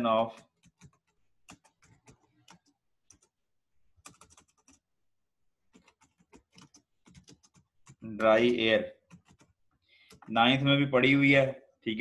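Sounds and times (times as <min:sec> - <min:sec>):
faint keyboard typing: 0:00.0 - 0:04.9, 0:05.7 - 0:10.8.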